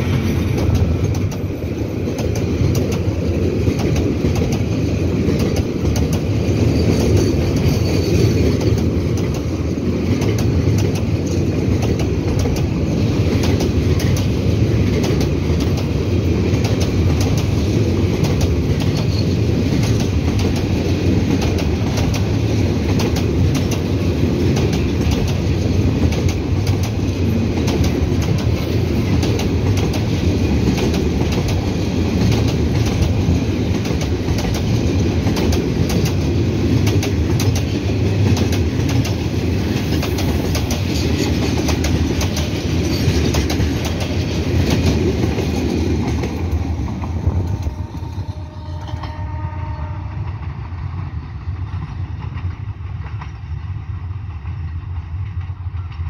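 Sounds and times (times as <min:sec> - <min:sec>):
wheels clicking over rail joints: 0:00.0 - 0:47.8
freight train rumbling past: 0:00.0 - 0:56.0.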